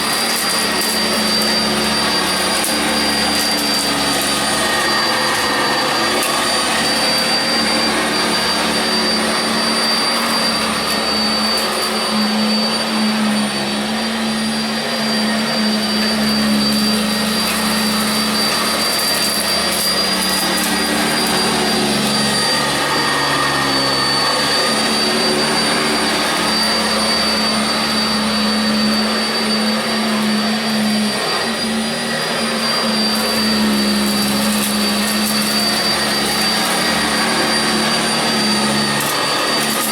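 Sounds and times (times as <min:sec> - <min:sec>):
upright vacuum running on carpet: 0:00.0 - 0:39.9.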